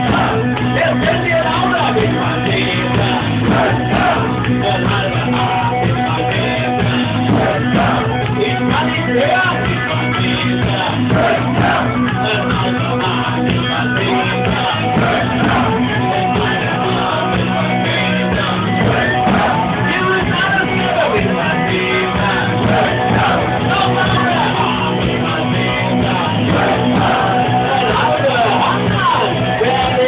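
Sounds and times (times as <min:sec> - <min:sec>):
rock band music with singing: 0:00.0 - 0:30.0.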